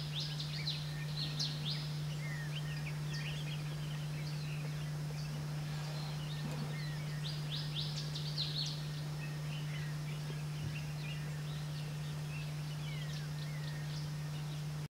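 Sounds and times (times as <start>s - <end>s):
small birds chirping: 0.0s - 14.9s
steady low hum: 0.0s - 14.9s.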